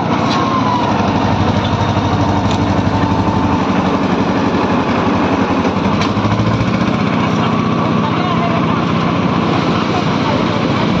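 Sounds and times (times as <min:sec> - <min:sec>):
mixer engine chugging: 0:00.0 - 0:11.0.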